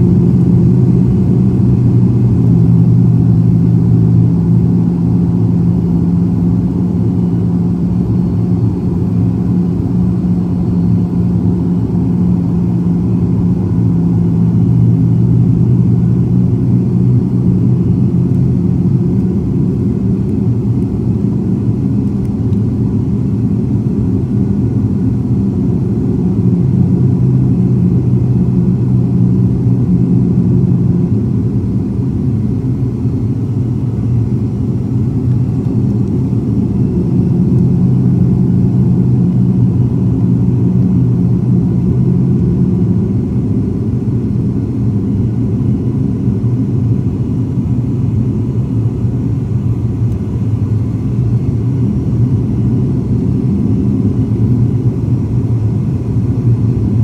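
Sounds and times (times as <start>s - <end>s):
turboprop engine drone in cabin: 0.0s - 57.0s.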